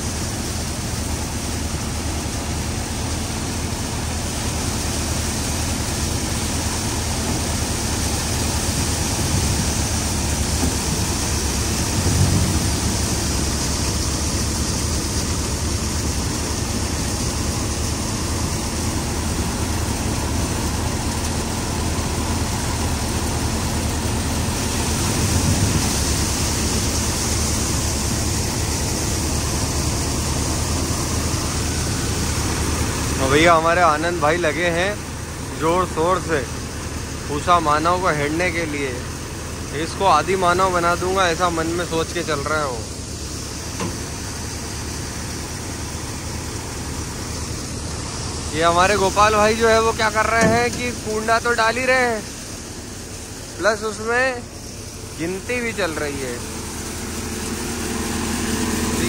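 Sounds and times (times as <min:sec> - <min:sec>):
threshing machine running: 0:00.0 - 0:59.0.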